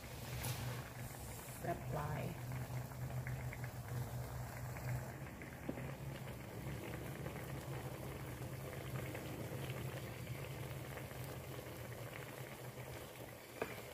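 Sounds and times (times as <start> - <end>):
low steady hum: 0.0 - 13.4
curry bubbling in a wok: 0.0 - 13.9.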